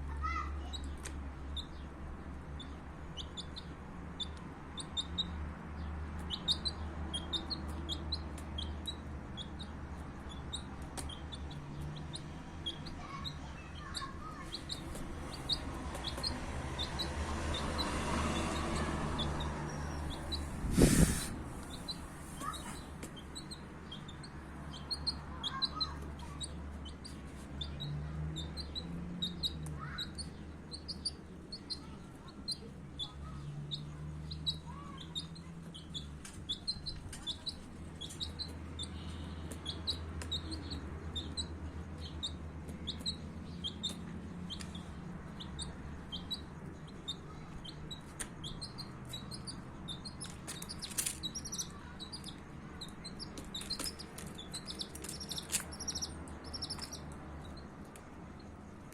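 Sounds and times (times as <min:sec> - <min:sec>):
chicks peeping: 0:02.5 - 0:05.4, 0:06.1 - 0:58.9.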